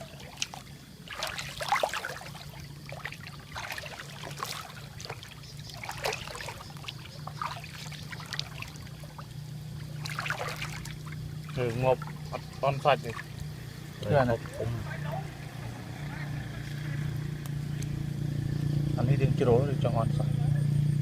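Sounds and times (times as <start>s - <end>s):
water splashing and trickling: 0.0s - 18.5s
steady low hum: 0.0s - 21.0s.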